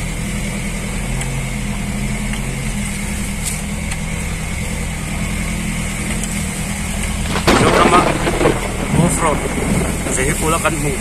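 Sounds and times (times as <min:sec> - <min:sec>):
jeep engine running: 0:00.0 - 0:11.0.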